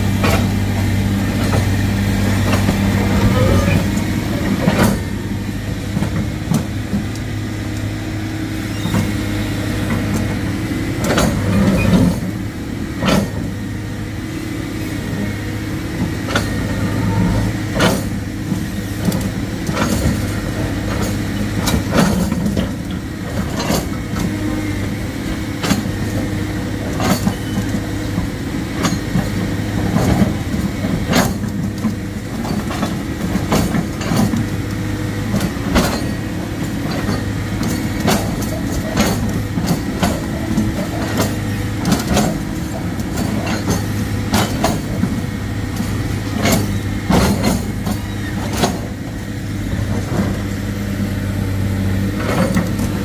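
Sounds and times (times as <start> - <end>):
machinery knocking and clanking: 0.0 - 7.9, 8.8 - 13.8, 15.1 - 53.0
diesel engine running: 0.0 - 53.0.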